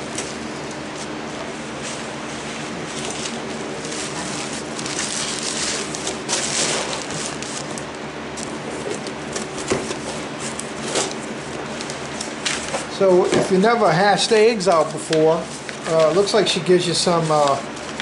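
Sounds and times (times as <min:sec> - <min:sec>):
steady low hum: 0:00.0 - 0:18.0
paper packing rustling: 0:00.1 - 0:18.0.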